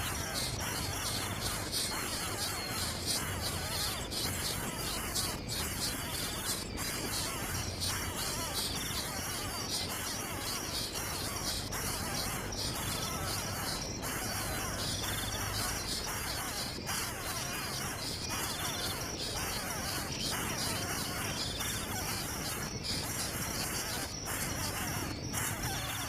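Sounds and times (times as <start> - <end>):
bird chirping: 0.0 - 26.0
insects: 0.0 - 26.0.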